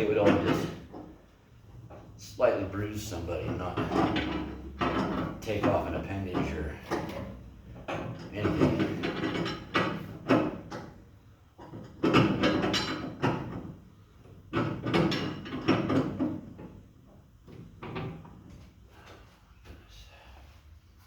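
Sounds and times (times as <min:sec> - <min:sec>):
spring compressor scraping and clunking: 0:00.0 - 0:19.2.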